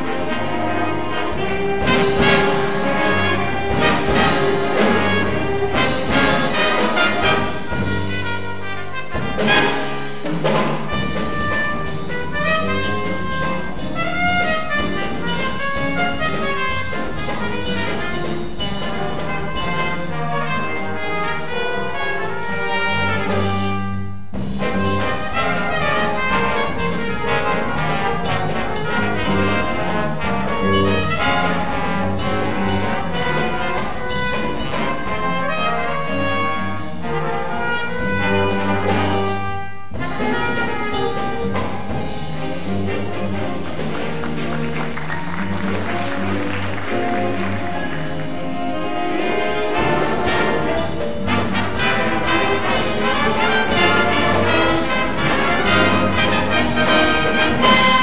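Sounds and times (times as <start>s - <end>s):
jazz big band playing: 0.0s - 58.0s.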